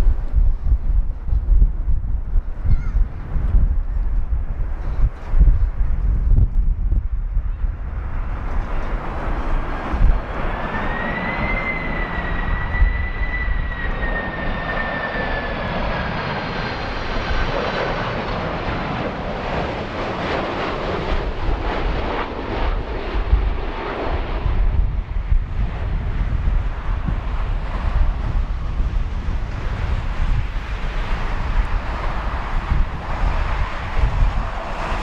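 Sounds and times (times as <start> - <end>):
jet airliner passing overhead: 0.0 - 35.0
wind buffeting microphone: 0.0 - 35.0.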